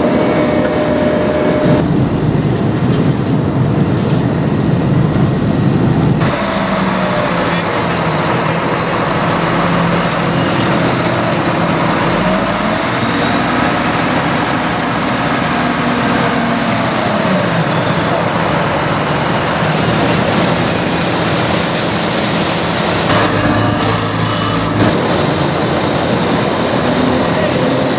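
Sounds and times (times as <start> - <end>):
diesel paving machinery running: 0.0 - 27.9.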